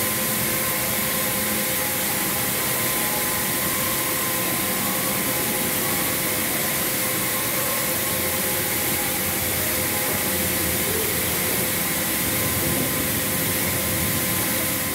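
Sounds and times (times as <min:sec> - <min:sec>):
faint steady tones: 0:00.0 - 0:14.9
machinery rushing hiss: 0:00.0 - 0:14.9.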